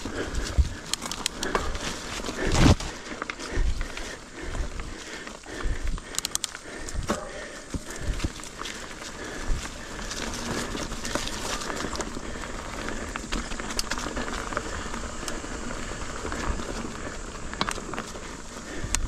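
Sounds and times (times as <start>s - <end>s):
bike tyre and drivetrain noise: 0.0s - 19.0s
wheels knocking on roots: 0.0s - 19.0s.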